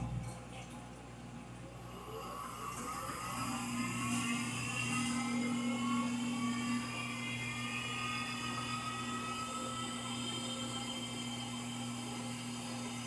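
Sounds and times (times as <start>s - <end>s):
washing machine spinning hum: 0.0s - 13.0s
rising motor whine: 2.0s - 13.0s.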